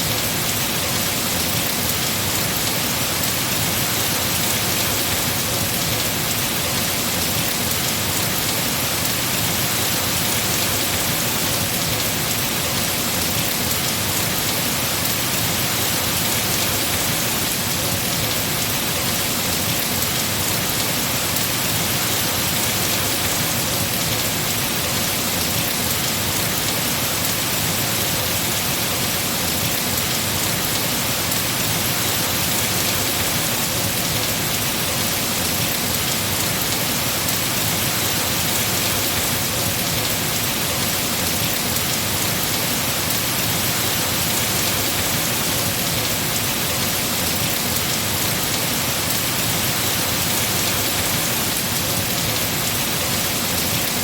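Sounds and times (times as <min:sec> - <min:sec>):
heavy rain on trees: 0:00.0 - 0:54.0.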